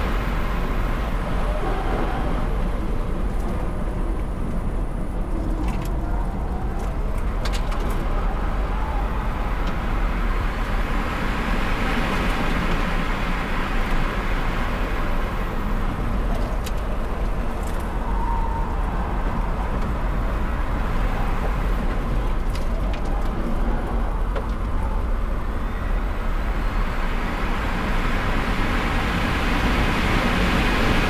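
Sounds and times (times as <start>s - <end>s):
wind and tyre roar: 0.0s - 31.0s.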